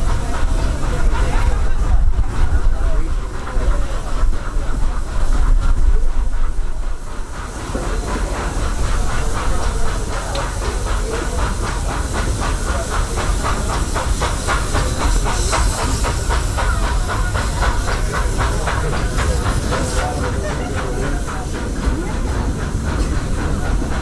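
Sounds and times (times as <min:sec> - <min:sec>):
steam hissing: 0:00.0 - 0:24.0
steam locomotive chuffing: 0:00.0 - 0:24.0
train rumbling on rails: 0:00.0 - 0:24.0.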